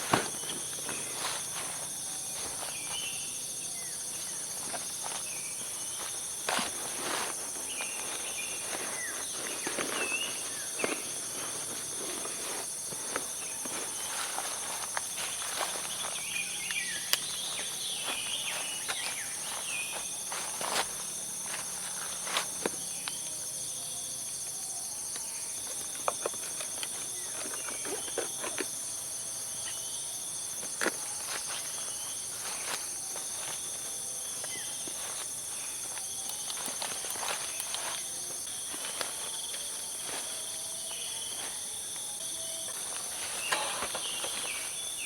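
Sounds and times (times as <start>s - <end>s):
insects chirping: 0.0s - 45.0s.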